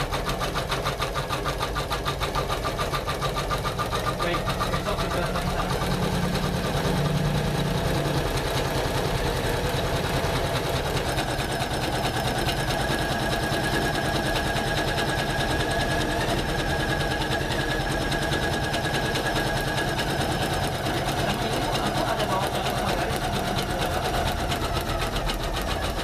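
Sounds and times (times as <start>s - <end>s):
embroidery machine stitching: 0.0s - 26.0s.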